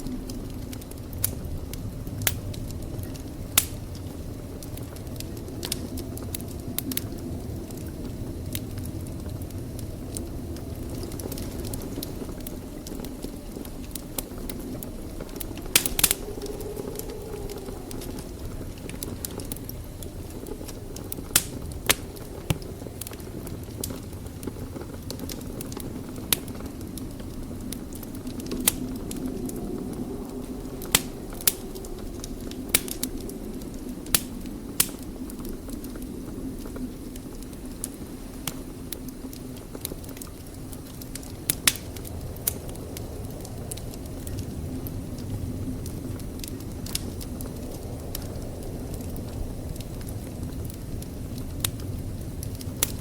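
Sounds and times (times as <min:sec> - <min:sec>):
fire crackling and popping: 0:00.0 - 0:53.0
fire rushing: 0:00.0 - 0:53.0.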